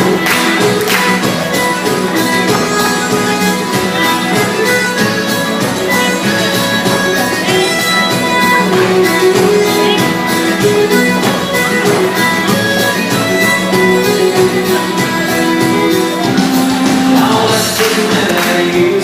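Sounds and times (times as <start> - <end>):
melody of long held notes: 0.0 - 17.4
guitar accompaniment: 0.0 - 19.0.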